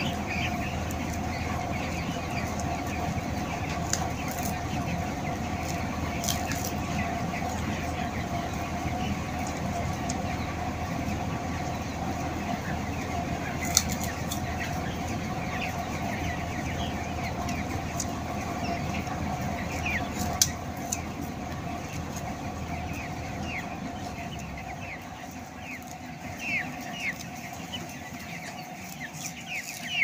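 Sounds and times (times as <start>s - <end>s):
chickens peeping and cheeping: 0.0s - 30.0s
machinery drone and hum: 0.0s - 30.0s.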